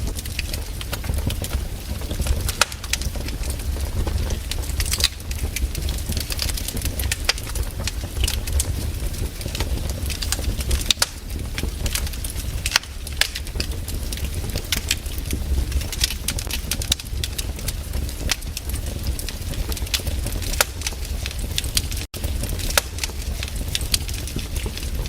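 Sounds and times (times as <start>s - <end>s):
low rumble of flames: 0.0s - 25.0s
wood fire pops and snaps: 0.0s - 25.0s.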